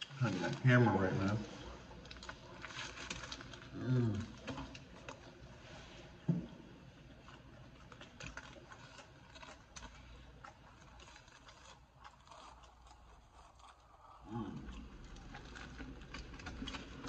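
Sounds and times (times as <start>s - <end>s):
faint chewing with mouth clicks: 0.0s - 17.0s.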